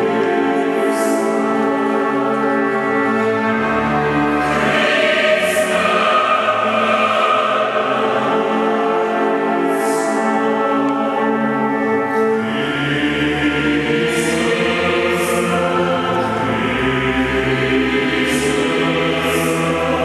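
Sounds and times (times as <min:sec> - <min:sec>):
choir and orchestra performing: 0:00.0 - 0:20.0.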